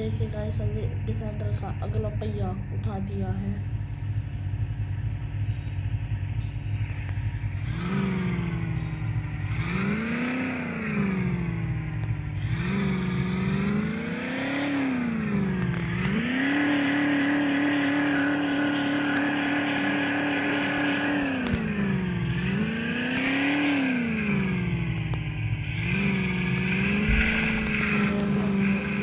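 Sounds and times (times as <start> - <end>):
engine idling and revving: 0.0 - 29.0.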